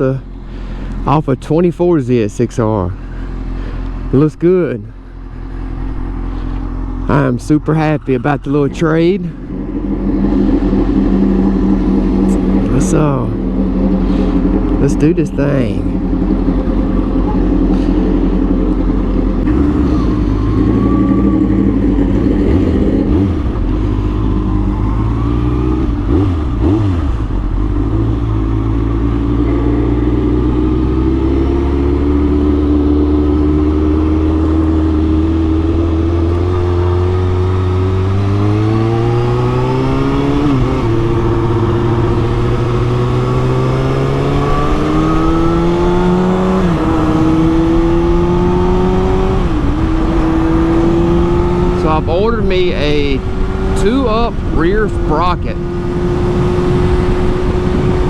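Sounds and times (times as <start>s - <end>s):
motorcycle engine revving: 5.2s - 58.0s.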